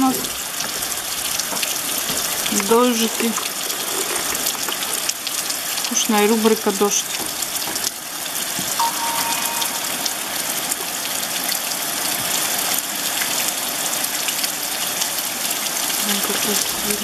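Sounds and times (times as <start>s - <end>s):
heavy rain on puddles: 0.0s - 8.8s, 10.9s - 17.0s.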